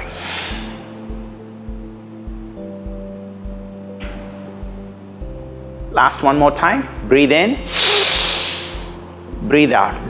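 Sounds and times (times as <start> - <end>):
calm music with held chords: 0.0 - 10.0.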